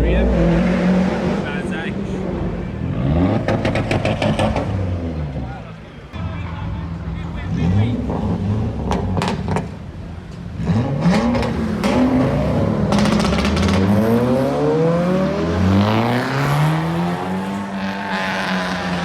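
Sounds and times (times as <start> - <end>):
car engines revving past: 0.0 - 6.2, 6.8 - 19.0.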